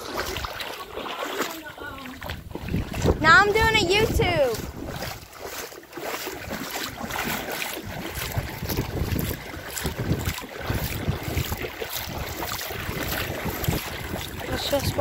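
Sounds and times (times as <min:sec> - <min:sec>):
wind buffeting microphone: 0:00.0 - 0:05.6, 0:06.3 - 0:15.0
legs sloshing through floodwater: 0:00.0 - 0:15.0.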